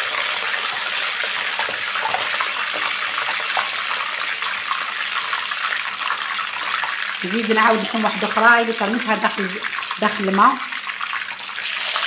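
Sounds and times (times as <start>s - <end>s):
pastries sizzling in hot oil: 0.0s - 12.0s.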